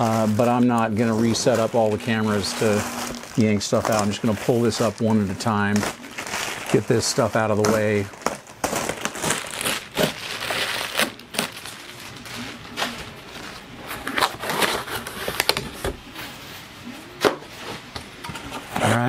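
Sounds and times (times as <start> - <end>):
cardboard rustling: 0.0 - 16.7
plastic wrap crinkling: 0.0 - 16.7.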